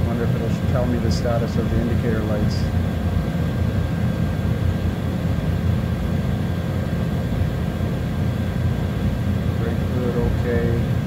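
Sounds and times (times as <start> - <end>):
low rumble of machinery: 0.0 - 11.0.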